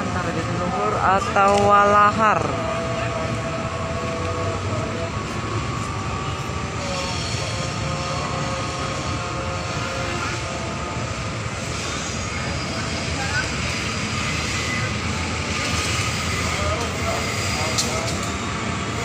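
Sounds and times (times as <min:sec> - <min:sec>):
diesel locomotive engine drone: 0:00.0 - 0:19.0
whining tones: 0:00.3 - 0:19.0.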